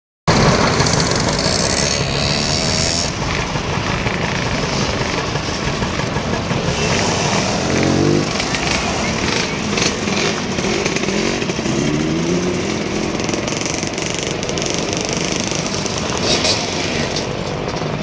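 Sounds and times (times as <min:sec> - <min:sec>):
two-stroke scooters riding past: 0:00.3 - 0:18.0.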